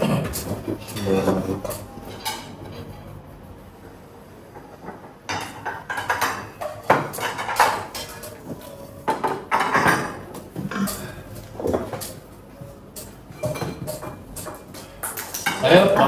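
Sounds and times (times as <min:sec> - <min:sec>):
dishes and cutlery clattering: 0:00.0 - 0:03.2, 0:04.5 - 0:16.0.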